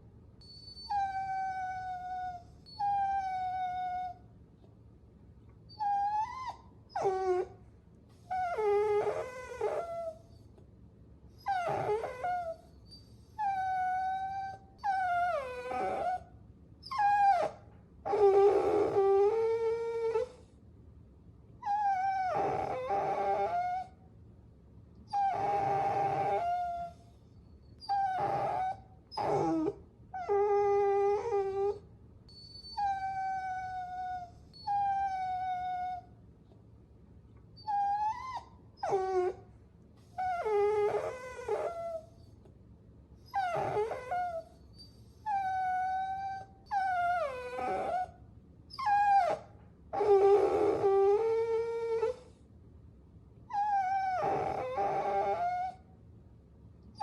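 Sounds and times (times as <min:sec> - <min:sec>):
puppy whining and howling: 0:00.4 - 0:04.3, 0:05.7 - 0:07.6, 0:08.2 - 0:10.6, 0:11.4 - 0:20.6, 0:21.6 - 0:24.0, 0:25.1 - 0:36.2, 0:37.5 - 0:42.5, 0:43.2 - 0:52.4, 0:53.4 - 0:55.9.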